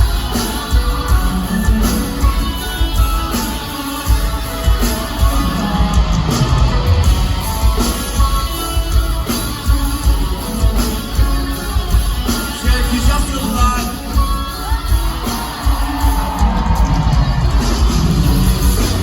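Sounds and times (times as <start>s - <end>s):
live rock music: 0.0s - 19.0s.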